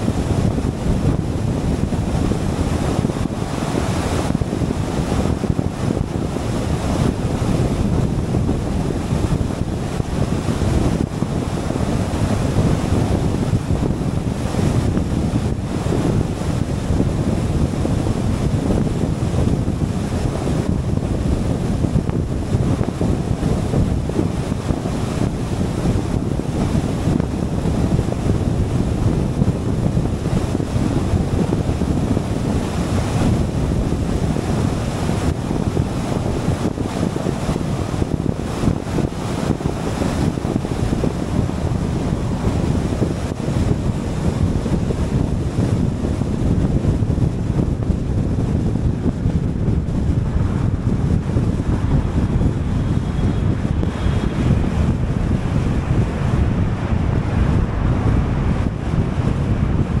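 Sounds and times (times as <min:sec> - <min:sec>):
wind rushing over microphone: 0:00.0 - 1:00.0.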